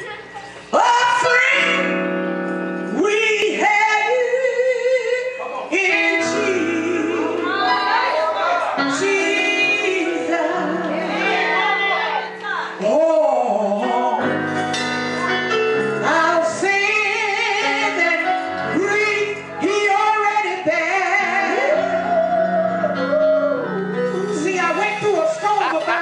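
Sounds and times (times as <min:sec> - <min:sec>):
woman singing gospel with vibrato: 0:00.0 - 0:02.2, 0:02.9 - 0:14.6, 0:15.9 - 0:26.0
held keyboard chords: 0:00.0 - 0:26.0.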